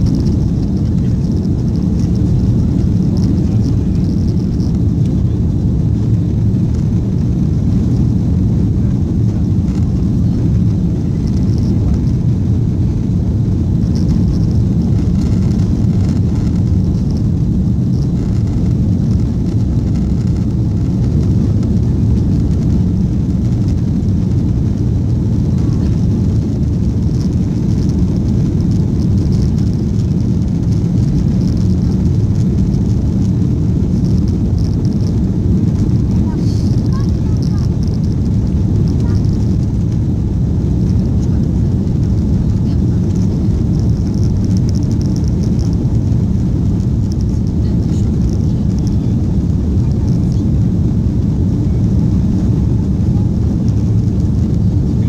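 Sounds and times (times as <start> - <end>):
rushing air: 0.0 - 54.8
jet engines rumbling: 0.0 - 55.0.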